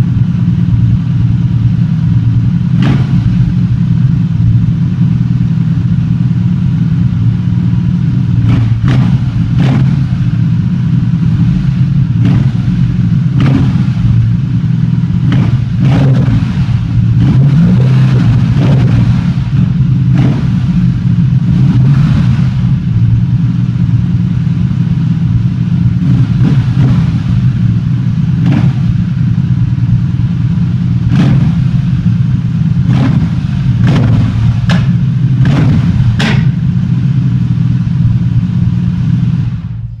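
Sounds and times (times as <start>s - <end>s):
motorcycle engine running loud: 0.0s - 40.0s.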